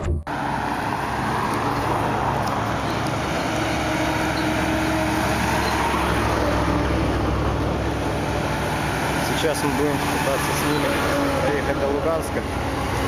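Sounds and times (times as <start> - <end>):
road and traffic noise: 0.0 - 13.0
vehicle engine hum: 0.0 - 13.0.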